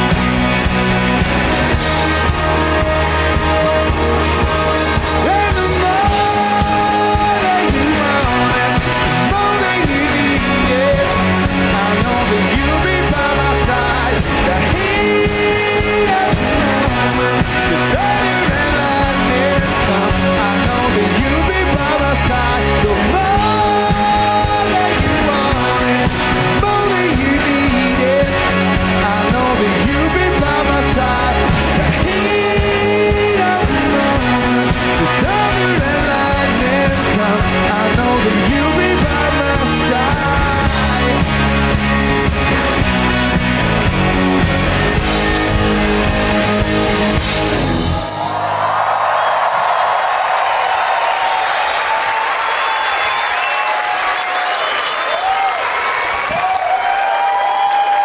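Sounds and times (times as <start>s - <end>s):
gliding lead melody: 0.0s - 48.8s
rock band playing live: 0.0s - 58.0s.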